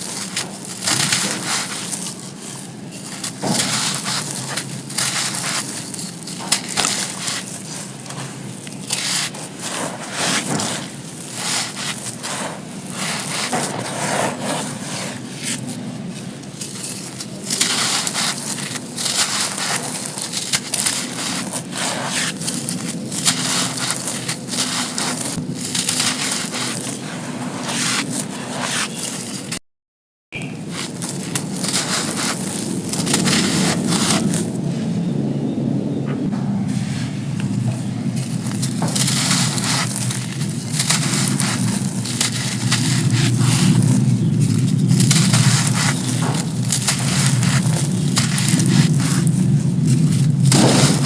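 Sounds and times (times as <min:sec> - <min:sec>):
sand cones crunching: 0:00.0 - 0:29.6, 0:30.4 - 0:35.5, 0:36.1 - 0:51.0.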